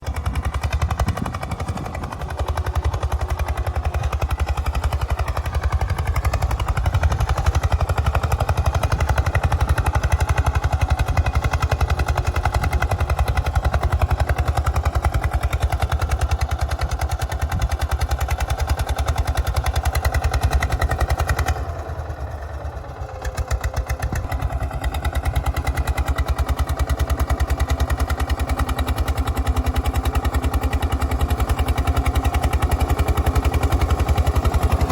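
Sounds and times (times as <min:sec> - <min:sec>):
tractor diesel engine thumping: 0:00.0 - 0:34.9.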